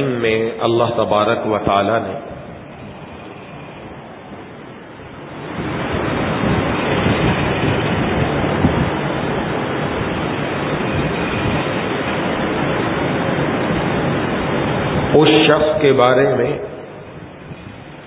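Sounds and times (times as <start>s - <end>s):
loud steady rushing noise: 0.0s - 18.0s.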